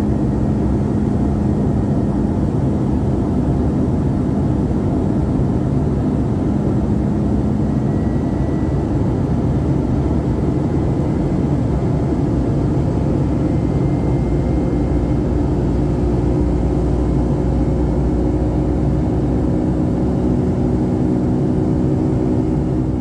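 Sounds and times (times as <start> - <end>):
airplane cabin drone: 0.0 - 23.0.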